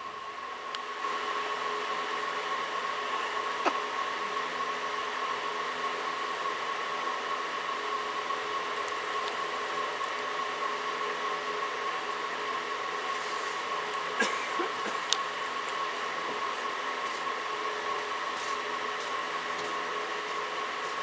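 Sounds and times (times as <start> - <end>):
train coach whirring: 0.0 - 21.0.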